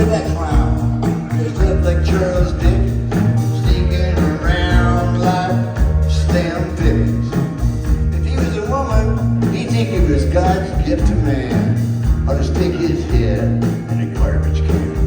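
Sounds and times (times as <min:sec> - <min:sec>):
pulsing bass and drum beat: 0:00.0 - 0:15.0
rock band playing live: 0:00.0 - 0:15.0.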